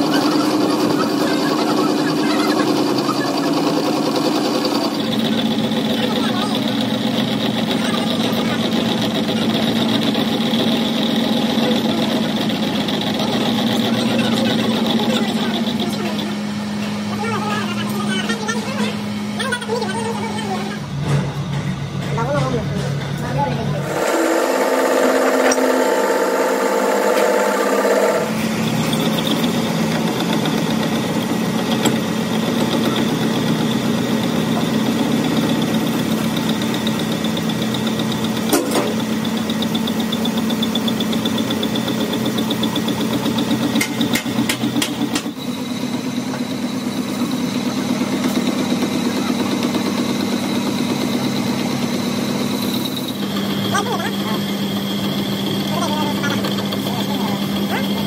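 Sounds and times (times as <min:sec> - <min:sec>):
metal lathe running: 0:00.0 - 0:58.0.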